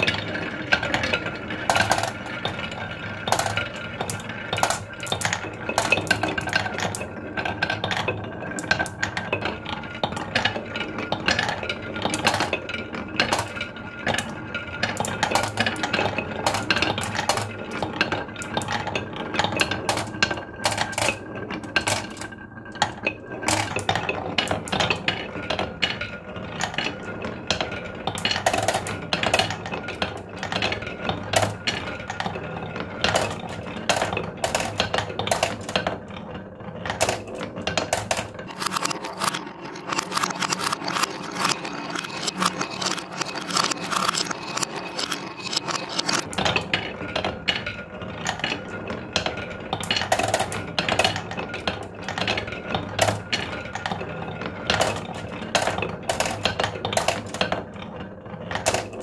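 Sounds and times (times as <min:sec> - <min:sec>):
marbles rattling down wooden tracks: 0:00.0 - 0:59.0.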